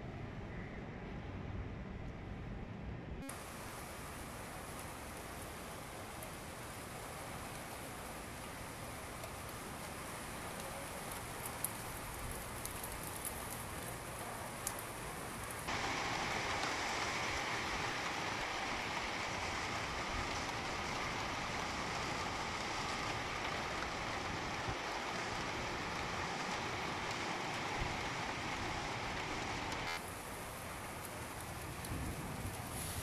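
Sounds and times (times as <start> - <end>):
steady rain falling: 3.2 - 33.0.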